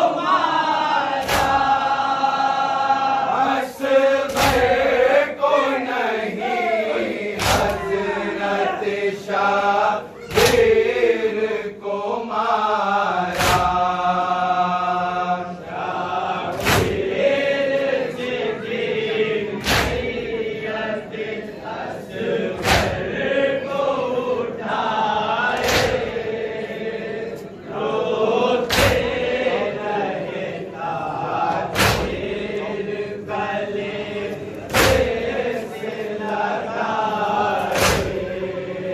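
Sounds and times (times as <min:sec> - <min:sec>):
men chanting together: 0:00.0 - 0:38.9.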